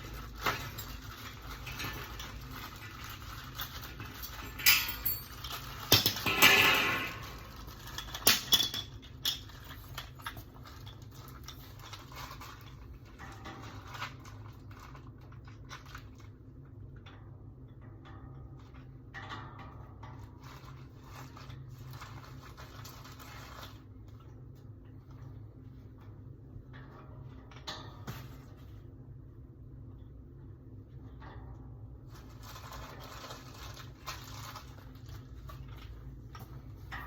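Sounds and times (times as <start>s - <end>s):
items clicking and clattering: 0.0s - 28.8s, 31.0s - 37.0s.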